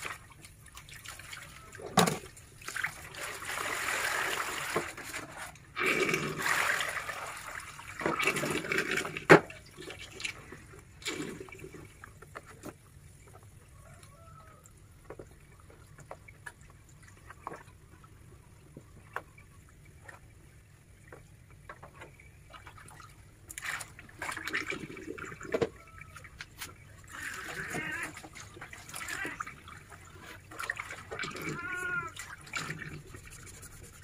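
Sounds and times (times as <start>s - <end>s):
water splashing: 0.0s - 34.0s.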